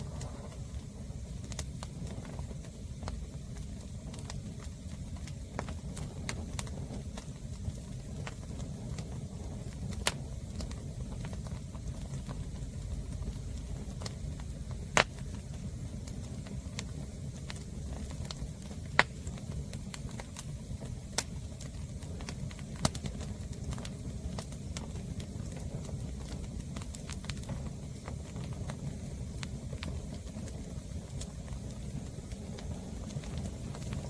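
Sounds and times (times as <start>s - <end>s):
firewood popping: 0.0s - 34.0s
low rumble of fire: 0.0s - 34.0s.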